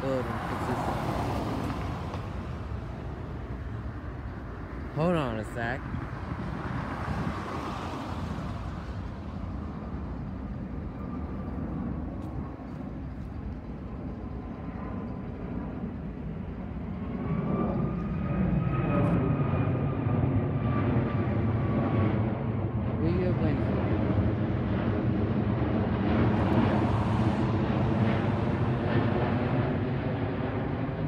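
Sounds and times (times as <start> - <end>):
high jet engine whine: 0.0 - 31.0
jet engine rumble: 0.0 - 31.0.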